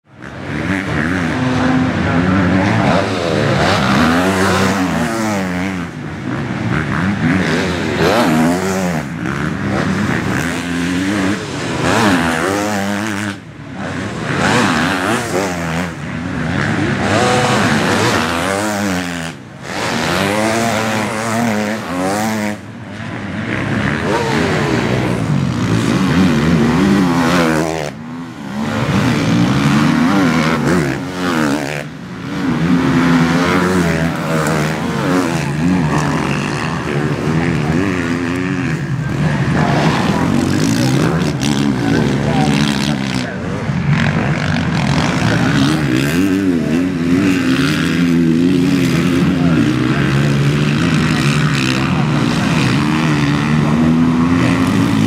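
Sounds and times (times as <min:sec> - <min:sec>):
motocross bikes revving: 0:00.1 - 0:55.0.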